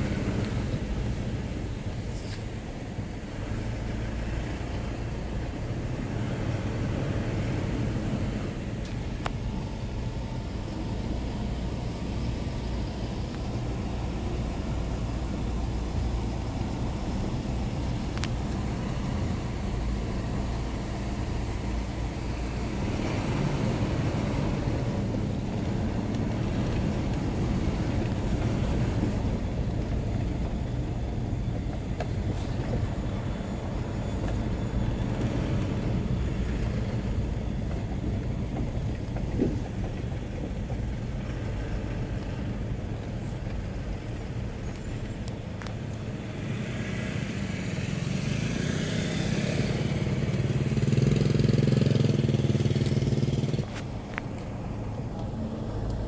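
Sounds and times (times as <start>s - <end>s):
car engine rumble: 0.0s - 56.0s
tyres on brick paving: 0.0s - 56.0s.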